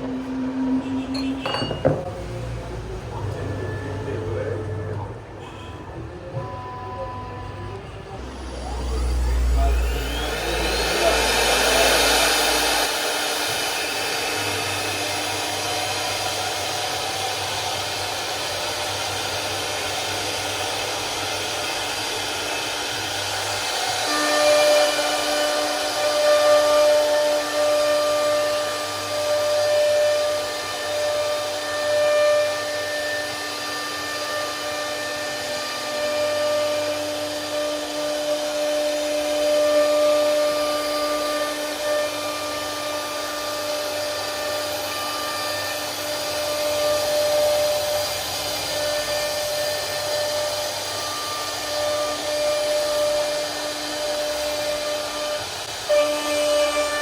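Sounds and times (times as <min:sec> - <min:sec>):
router spindle whining: 0:06.2 - 0:57.0.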